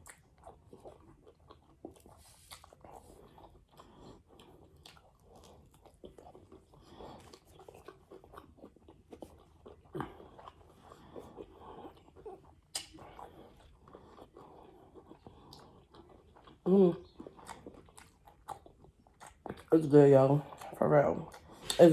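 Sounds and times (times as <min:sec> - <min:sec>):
person chewing crunchy food: 0:00.0 - 0:21.9.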